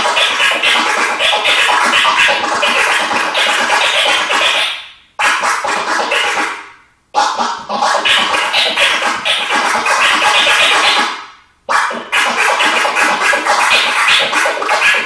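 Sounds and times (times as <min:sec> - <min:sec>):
turntable-style scratching: 0:00.0 - 0:15.0.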